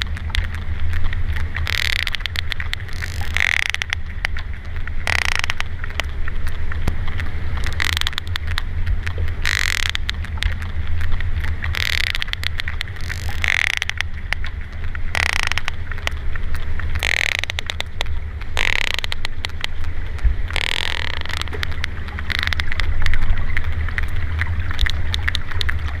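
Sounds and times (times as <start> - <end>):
low hum: 0.0 - 26.0
water wash: 0.0 - 26.0
whale clicks underwater: 0.0 - 26.0.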